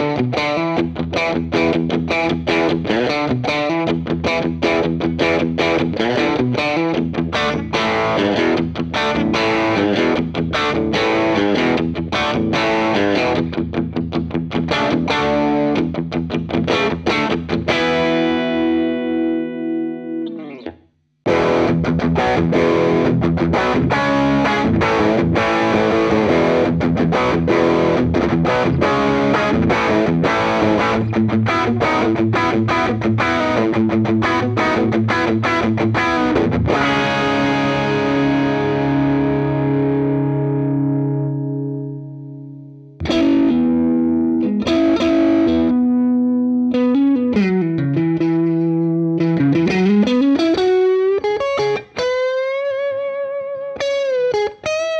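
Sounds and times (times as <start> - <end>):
fast overdriven guitar riff: 0.0 - 54.9
overdriven electric guitar: 0.0 - 54.9.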